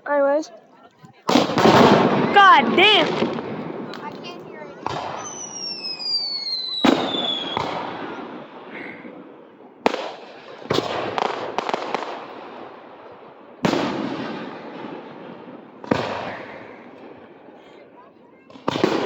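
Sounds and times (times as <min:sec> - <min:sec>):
fireworks exploding: 0:01.2 - 0:19.0.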